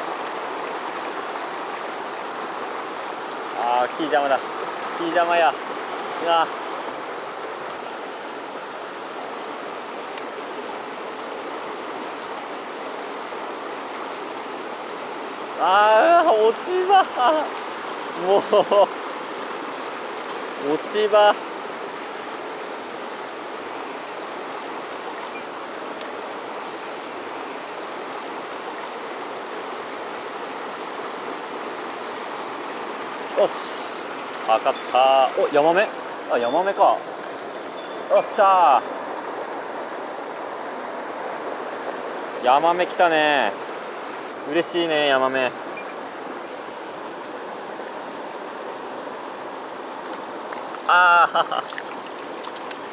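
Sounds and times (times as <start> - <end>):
water rushing over rocks: 0.0 - 52.9.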